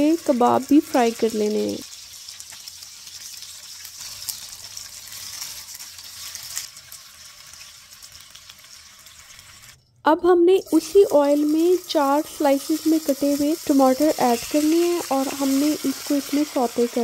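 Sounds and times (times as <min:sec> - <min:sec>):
kebabs sizzling in hot oil: 0:00.0 - 0:09.8, 0:10.5 - 0:17.0.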